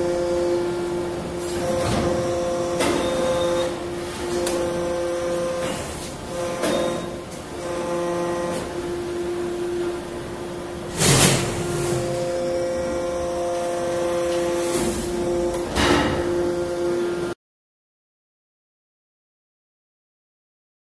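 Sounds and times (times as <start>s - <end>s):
hydraulic pump whine: 0.0s - 17.4s.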